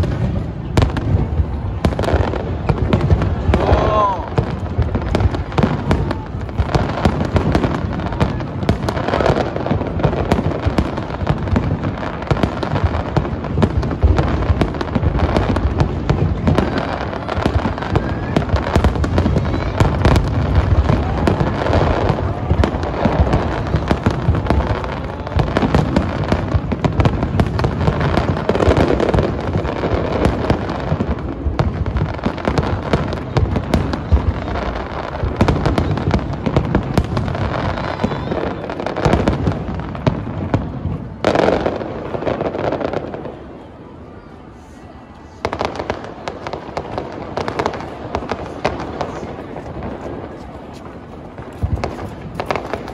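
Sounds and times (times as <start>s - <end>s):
fireworks booming and crackling: 0.0s - 52.9s.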